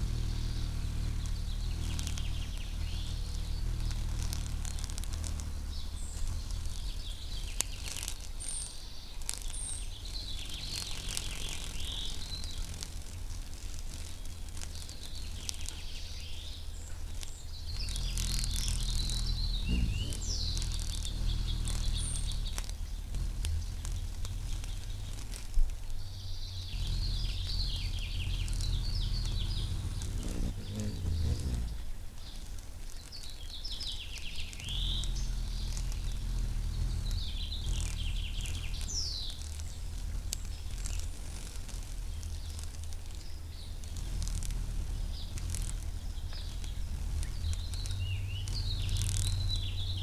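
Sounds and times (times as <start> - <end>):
faint clicks: 0.0 - 50.0
high bird chirps: 0.0 - 50.0
steady low hum: 0.0 - 50.0.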